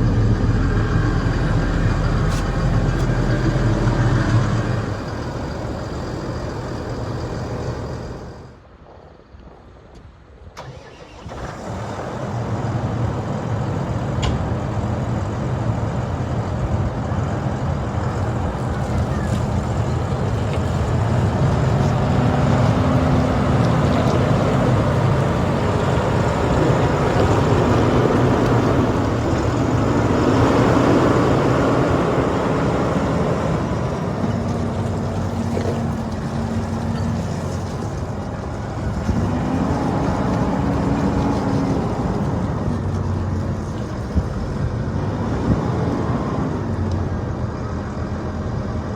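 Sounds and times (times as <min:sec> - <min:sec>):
tractor diesel engine running: 0:00.0 - 0:08.7, 0:10.6 - 0:48.9.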